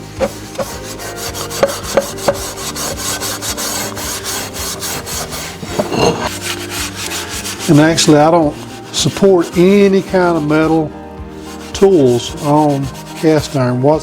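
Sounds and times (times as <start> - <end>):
steel wool scrubbing skillet: 0.0 - 14.0.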